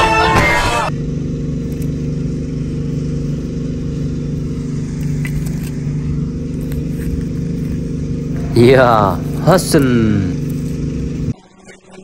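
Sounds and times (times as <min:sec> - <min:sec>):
engine running steadily: 0:00.0 - 0:11.4.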